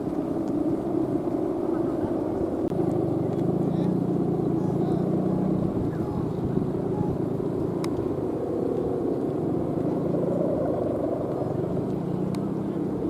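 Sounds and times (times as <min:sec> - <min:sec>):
kite hummer droning: 0:00.0 - 0:13.0
wind rushing over microphone: 0:00.0 - 0:13.0.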